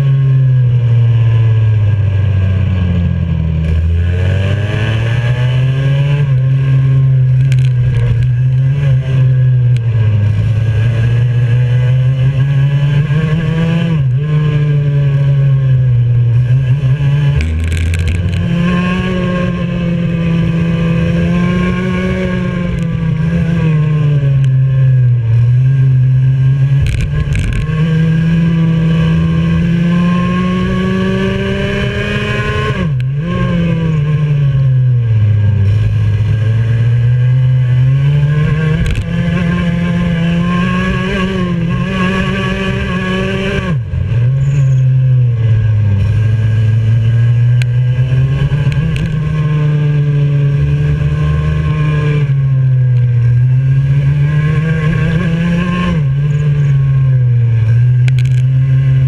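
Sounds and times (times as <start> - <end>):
kart engine revving: 1.2 - 59.0.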